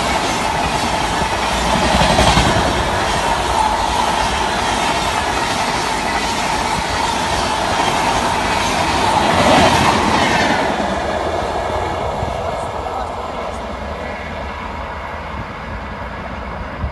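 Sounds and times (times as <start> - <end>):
train coaches rushing past: 0.0 - 16.9.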